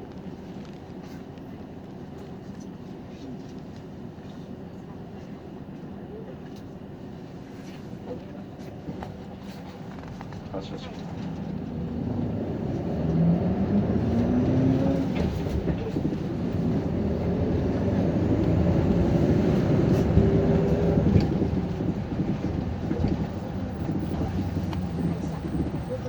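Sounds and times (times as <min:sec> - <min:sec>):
bus engine accelerating: 0:03.9 - 0:26.0.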